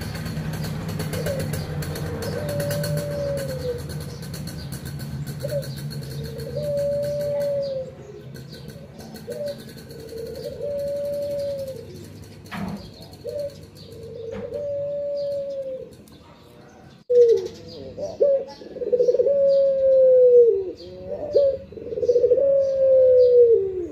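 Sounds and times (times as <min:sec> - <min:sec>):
dove cooing: 0:00.0 - 0:16.0, 0:16.8 - 0:23.9.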